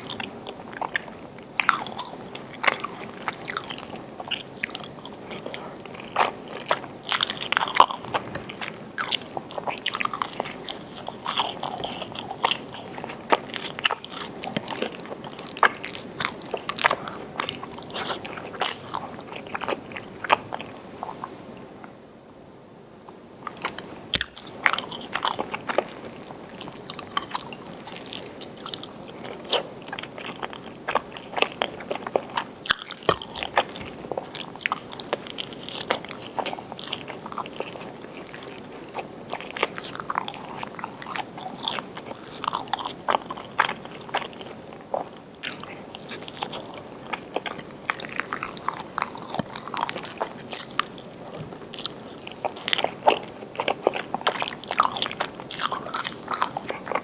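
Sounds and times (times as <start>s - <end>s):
person chewing crunchy food: 0.0s - 21.4s, 23.0s - 57.0s.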